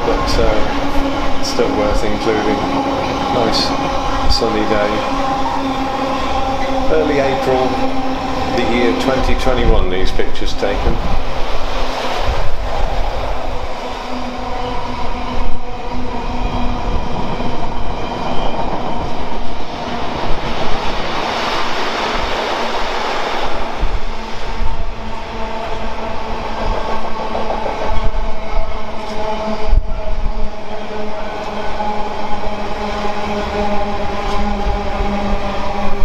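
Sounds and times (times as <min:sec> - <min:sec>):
freight train wheels rolling on rails: 0:00.0 - 0:36.0.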